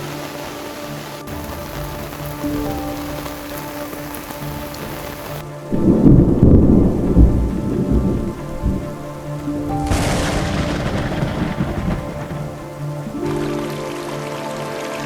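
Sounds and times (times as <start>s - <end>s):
thunderclap rumbling: 0.0s - 14.2s
heavy rain hissing: 0.0s - 15.0s
soft sustained music tones: 0.0s - 15.0s.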